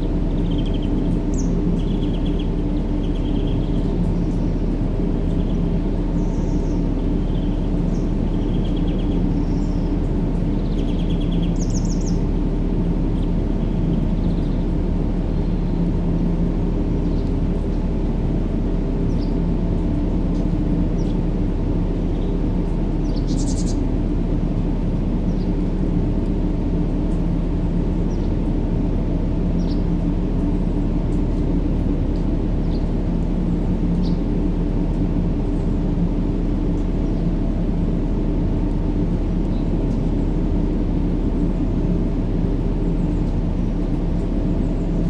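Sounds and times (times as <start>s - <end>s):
low rumbling noise with hum: 0.0s - 45.0s.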